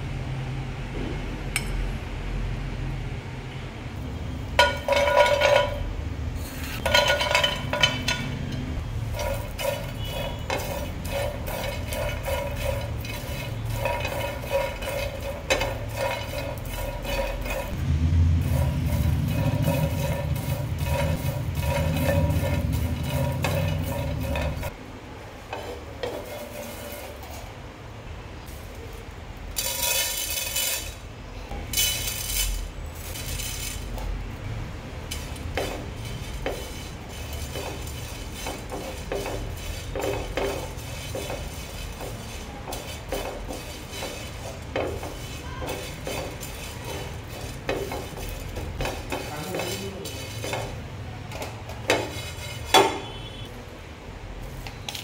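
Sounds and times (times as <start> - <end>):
spatula scraping frying pan: 4.5 - 24.8, 25.4 - 27.6, 28.4 - 53.5.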